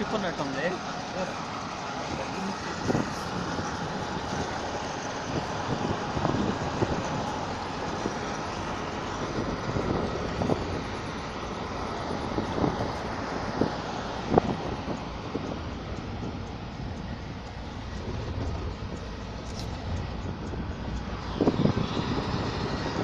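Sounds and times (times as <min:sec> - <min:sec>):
vehicle interior rumble: 0:00.0 - 0:23.0.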